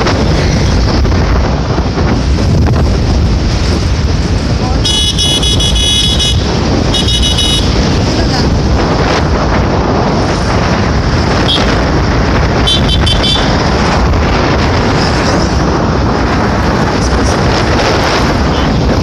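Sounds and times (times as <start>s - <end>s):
motorcycle road noise: 0.0s - 19.0s
wind on microphone: 0.0s - 19.0s.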